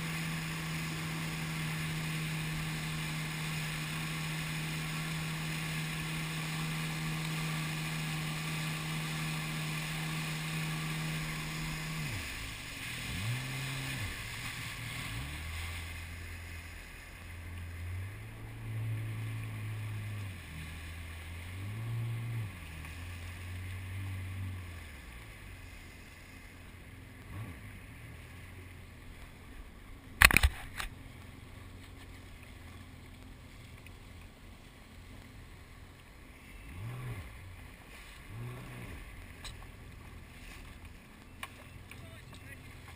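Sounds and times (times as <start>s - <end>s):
jet ski engine: 0.0s - 42.9s.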